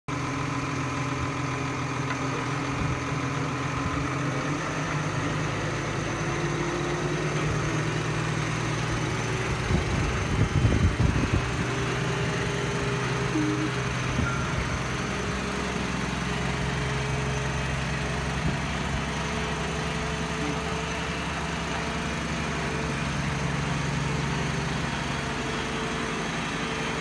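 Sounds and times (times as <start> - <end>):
tractor diesel engine running: 0.1 - 27.0.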